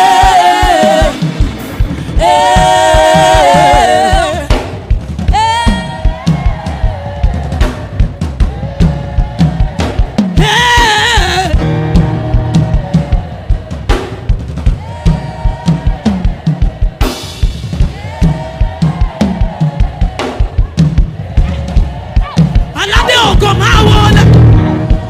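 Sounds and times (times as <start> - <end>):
drum kit beat: 0.0 - 25.0.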